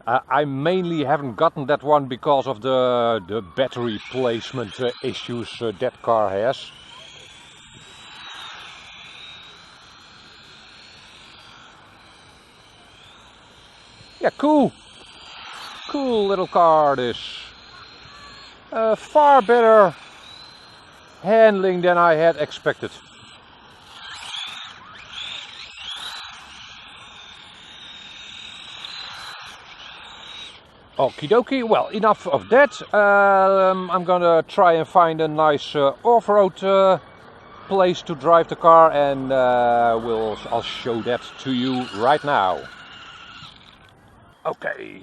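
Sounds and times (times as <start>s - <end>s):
rc car motor whining: 0.0s - 45.0s.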